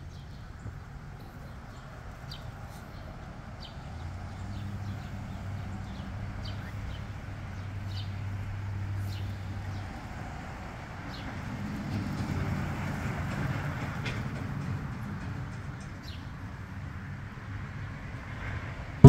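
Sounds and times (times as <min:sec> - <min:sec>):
vehicle engine humming: 0:00.0 - 0:16.8.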